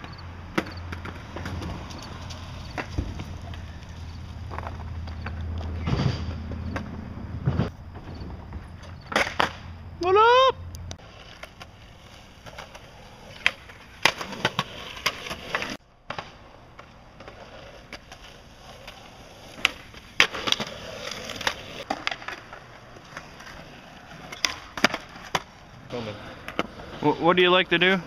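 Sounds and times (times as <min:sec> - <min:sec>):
skateboard clacks popping and landing: 0:00.0 - 0:09.8, 0:11.1 - 0:25.7
skateboard wheels rolling on concrete: 0:00.0 - 0:28.0.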